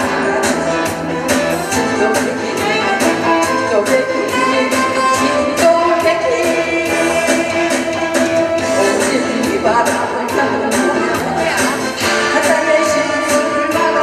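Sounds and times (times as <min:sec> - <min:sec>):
backing track with steady beat: 0:00.0 - 0:14.0
woman singing into microphone: 0:00.0 - 0:14.0.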